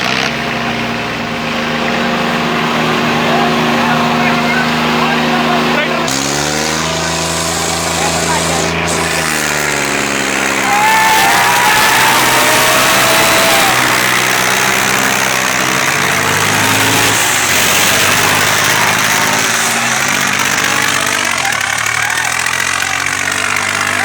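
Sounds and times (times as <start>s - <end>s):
diesel tractor engines under load: 0.0s - 24.0s.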